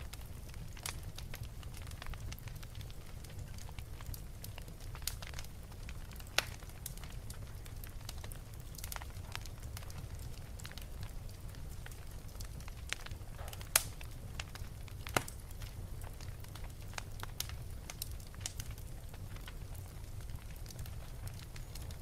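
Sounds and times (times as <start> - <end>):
low fire rumble: 0.0 - 22.0
wood fire crackling: 0.0 - 22.0.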